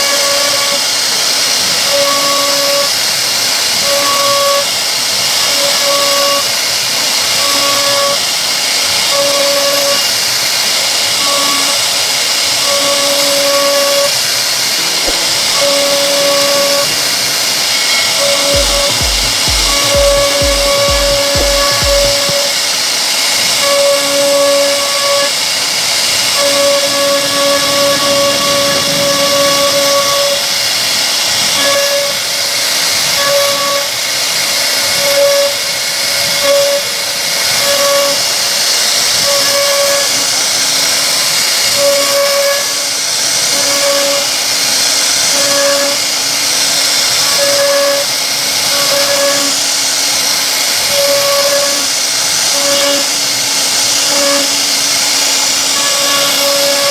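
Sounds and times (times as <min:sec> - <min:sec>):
machine whine: 0:00.0 - 0:56.9
router cutter hissing in wood: 0:00.0 - 0:56.9.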